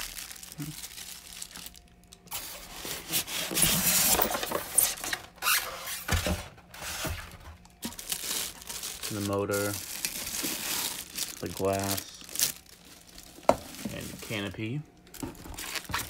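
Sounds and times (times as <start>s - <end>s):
plastic packaging crinkling: 0.0s - 5.7s, 6.8s - 16.0s.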